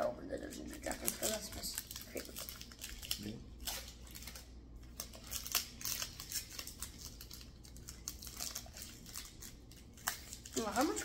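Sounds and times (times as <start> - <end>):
foil wrapper crinkling and tearing: 0.4 - 11.0.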